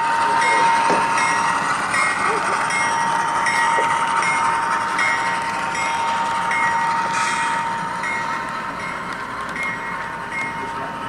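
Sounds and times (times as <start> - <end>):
model train wheels humming: 0.0 - 11.0
rail joint clicks: 0.1 - 11.0.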